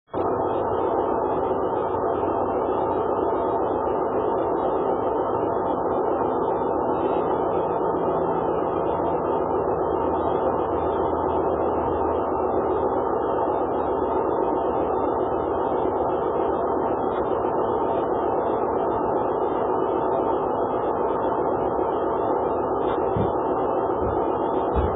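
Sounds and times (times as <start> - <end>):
steady rushing noise: 0.1 - 24.9.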